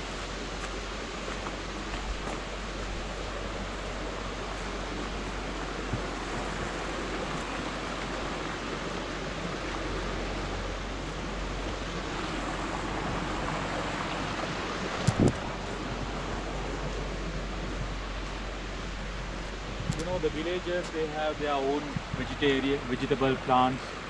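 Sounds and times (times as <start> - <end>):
falling water rushing: 0.0 - 24.0.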